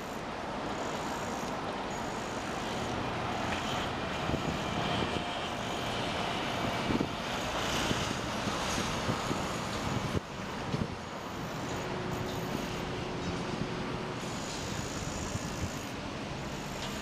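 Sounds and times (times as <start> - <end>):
construction machinery: 0.0 - 17.0
road vehicles: 0.0 - 17.0.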